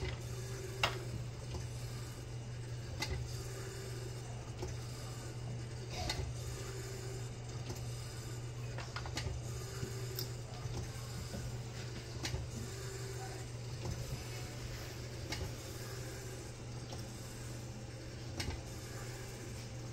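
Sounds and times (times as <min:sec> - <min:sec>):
lab equipment hum: 0:00.0 - 0:19.9.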